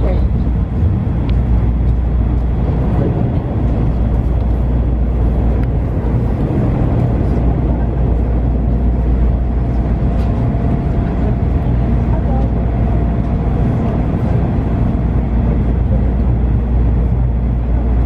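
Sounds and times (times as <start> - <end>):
train rumble inside passenger car: 0.0 - 18.0.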